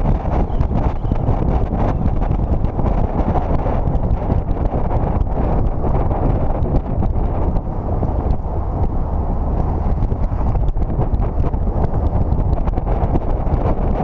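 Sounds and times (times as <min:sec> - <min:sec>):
low road rumble: 0:00.0 - 0:14.0
wind buffeting camera: 0:00.0 - 0:14.0.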